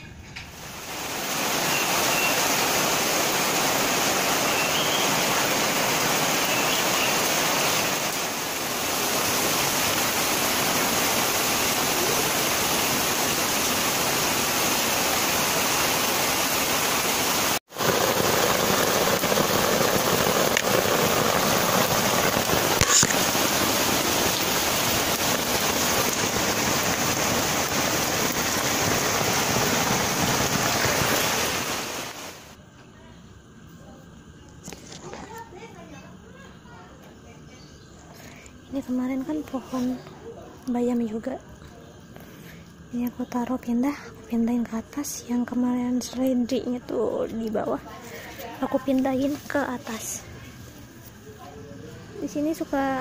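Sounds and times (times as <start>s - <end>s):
rain falling steadily: 0.4s - 32.6s, 33.5s - 53.0s.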